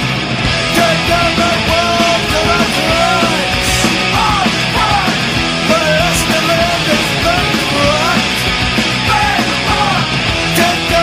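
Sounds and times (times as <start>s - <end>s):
punk rock song: 0.0s - 11.0s.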